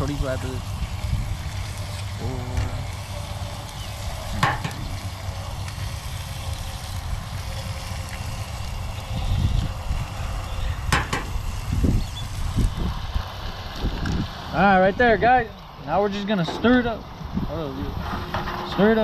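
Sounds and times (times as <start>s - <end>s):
food sizzling in a pan: 0.0s - 15.4s.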